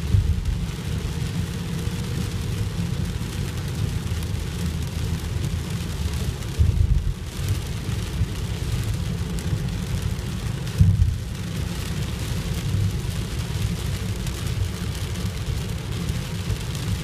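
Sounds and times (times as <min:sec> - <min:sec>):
car engine and tyre rumble: 0:00.0 - 0:17.0
rain hissing on windscreen: 0:00.0 - 0:17.0.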